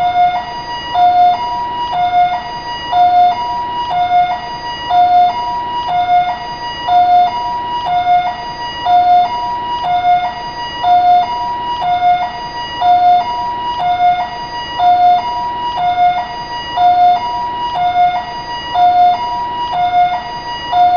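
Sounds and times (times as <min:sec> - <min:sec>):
two-tone ambulance siren: 0:00.0 - 0:20.9.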